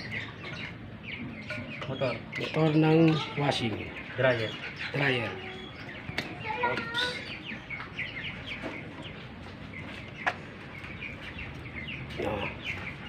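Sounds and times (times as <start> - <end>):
birds chirping: 0.0 - 13.0
chickens clucking: 0.0 - 13.0.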